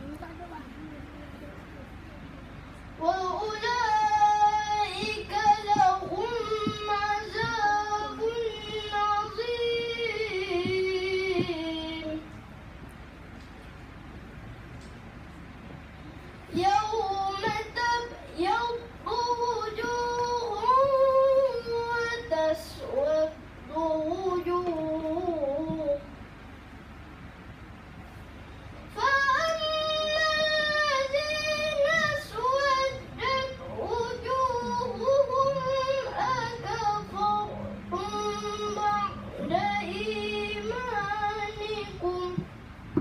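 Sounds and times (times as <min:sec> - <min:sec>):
boy chanting recitation: 0:00.0 - 0:12.3, 0:16.4 - 0:26.2, 0:28.9 - 0:43.0.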